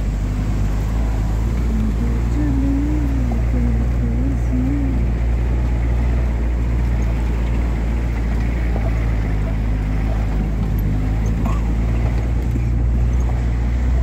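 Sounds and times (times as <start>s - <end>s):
tyres rumbling on gravel: 0.0s - 14.0s
vehicle engine droning under load: 0.0s - 14.0s.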